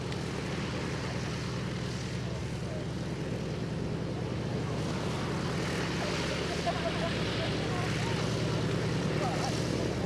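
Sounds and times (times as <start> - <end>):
propeller aircraft engine droning: 0.0 - 10.0.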